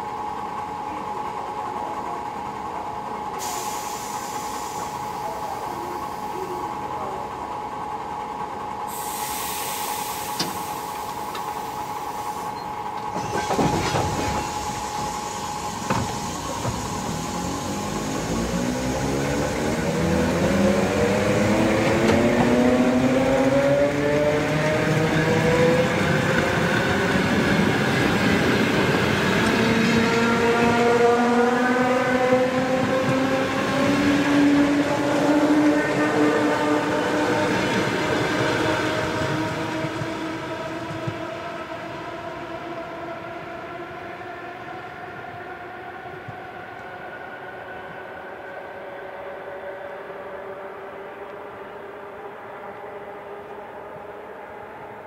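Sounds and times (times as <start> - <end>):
train traction motor whine: 0.0 - 55.0.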